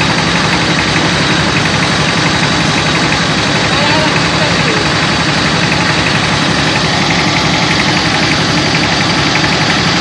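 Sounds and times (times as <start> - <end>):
engine chugging: 0.0 - 10.0
loud machine din: 0.0 - 10.0.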